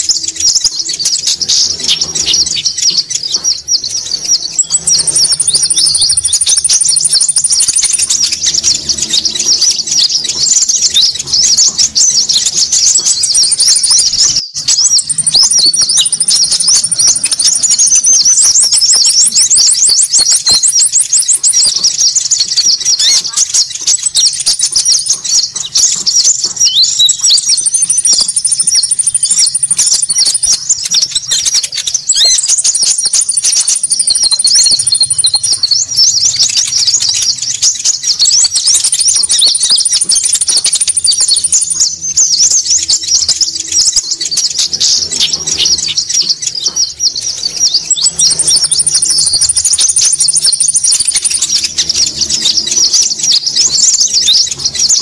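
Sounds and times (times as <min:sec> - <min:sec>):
chorus of small birds calling: 0:00.0 - 0:55.0.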